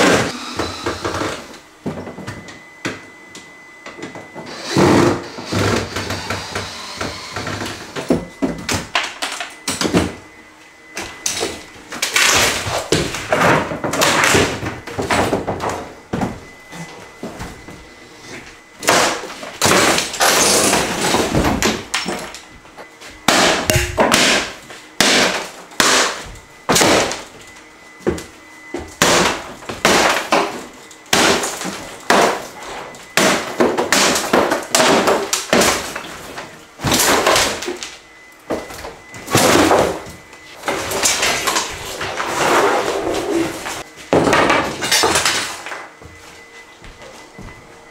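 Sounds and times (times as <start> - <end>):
cabinets banging and cracking: 3.9 - 10.2, 11.0 - 17.7, 18.8 - 22.6, 23.2 - 46.1.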